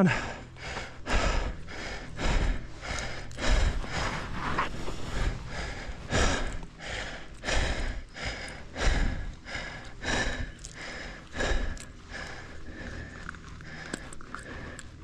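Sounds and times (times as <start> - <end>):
heavy breathing: 0.0 - 15.0.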